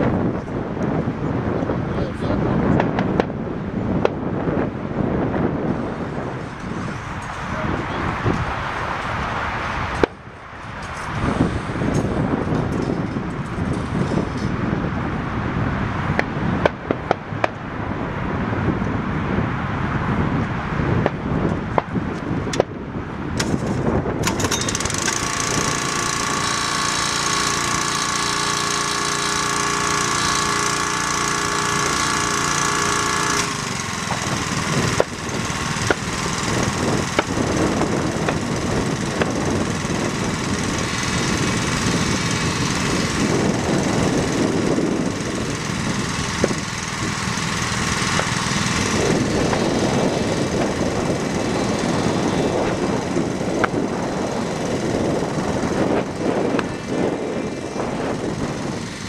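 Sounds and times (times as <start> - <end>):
pulse jet engine buzzing: 0.0 - 59.0.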